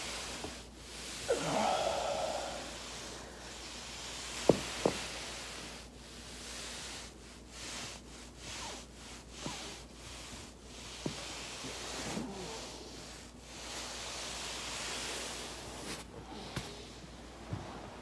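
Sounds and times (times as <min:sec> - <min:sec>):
body rolling on foam roller: 0:00.0 - 0:18.0.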